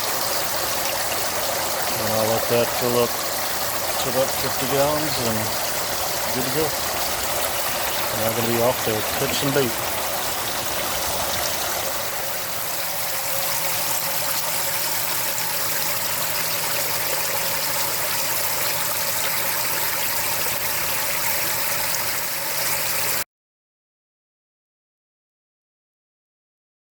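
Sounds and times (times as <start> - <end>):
faint steady hum: 0.0 - 22.0
water splashing into a tank: 0.0 - 23.2.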